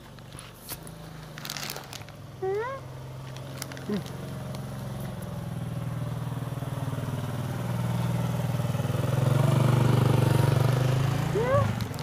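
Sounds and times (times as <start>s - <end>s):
small motorcycle engine running: 0.2s - 12.0s.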